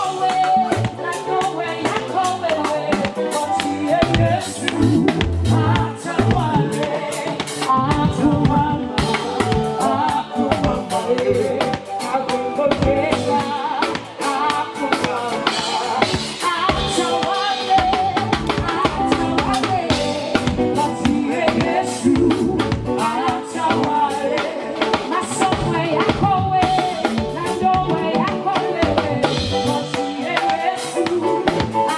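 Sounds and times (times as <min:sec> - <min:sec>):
drum kit beat: 0:00.0 - 0:31.9
gospel band playing: 0:00.0 - 0:31.9.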